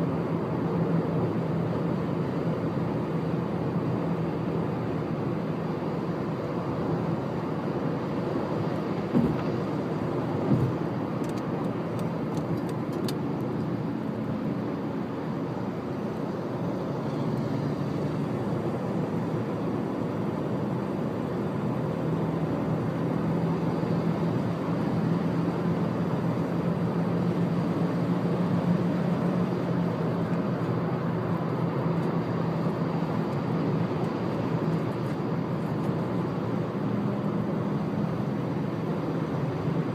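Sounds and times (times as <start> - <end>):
car interior road drone: 0.0 - 39.9.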